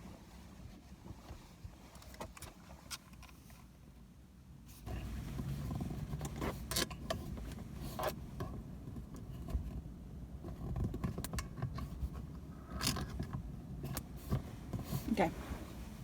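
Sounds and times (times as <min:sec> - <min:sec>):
handling clicks knocks and scrapes: 0:00.3 - 0:03.7, 0:04.7 - 0:16.0.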